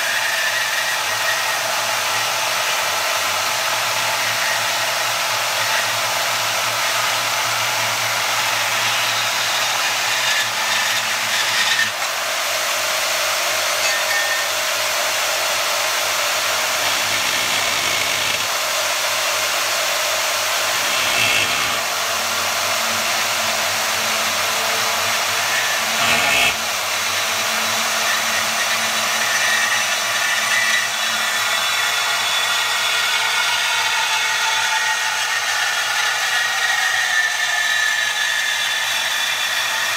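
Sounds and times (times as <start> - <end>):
bandsaw cutting aluminum tube: 0.0 - 39.9.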